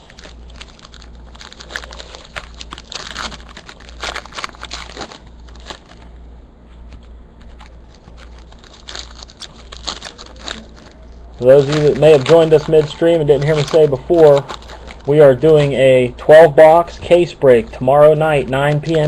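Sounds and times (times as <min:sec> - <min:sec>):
foil wrappers crinkling: 0:00.0 - 0:06.2, 0:06.8 - 0:15.8, 0:16.4 - 0:19.0.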